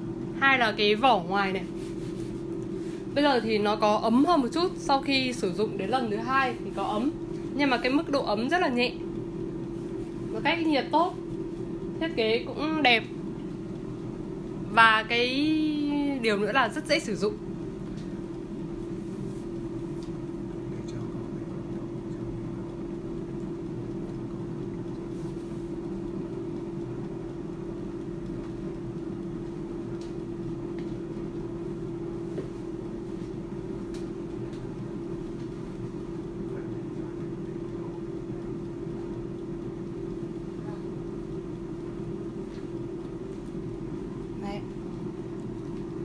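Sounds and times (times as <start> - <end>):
air fryer fan humming: 0.0 - 46.0.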